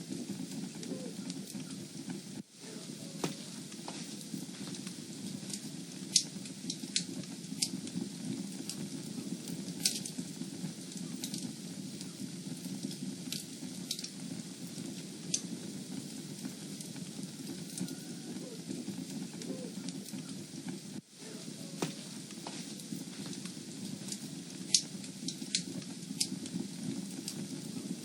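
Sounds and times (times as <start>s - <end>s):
fire burning in a fireplace: 0.0s - 28.0s
fire crackling and popping: 0.0s - 28.0s.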